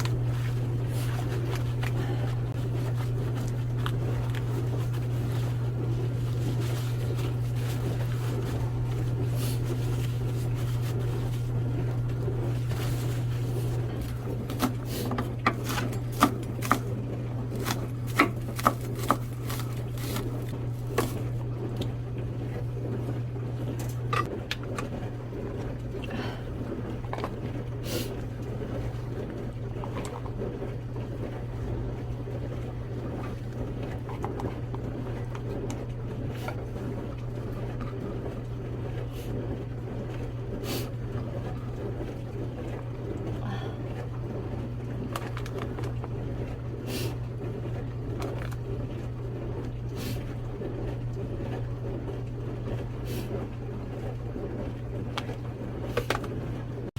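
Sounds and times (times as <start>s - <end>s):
low hum: 0.0s - 48.7s.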